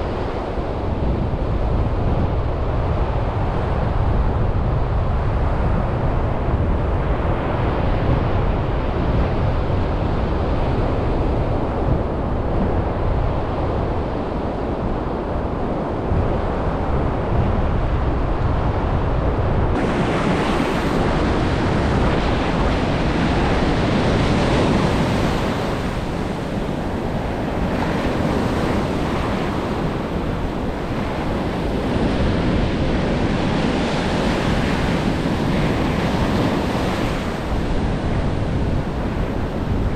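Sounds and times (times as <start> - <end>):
ocean surf breaking on beach: 0.0 - 39.9
wind buffeting microphone: 0.0 - 39.9.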